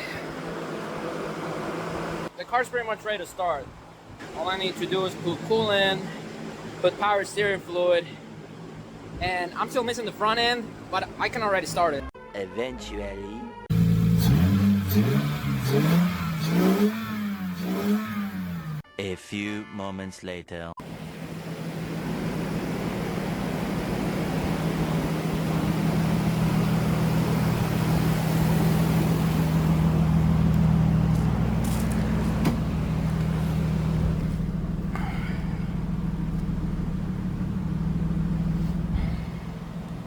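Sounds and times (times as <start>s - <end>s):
car engine running: 0.0s - 2.3s, 3.8s - 11.4s, 13.7s - 18.8s, 20.8s - 40.0s.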